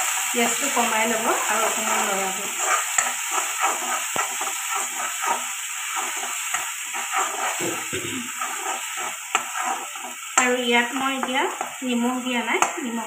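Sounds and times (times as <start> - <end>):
paste sizzling in hot oil: 0.0 - 13.0
spatula scraping wok: 0.0 - 13.0.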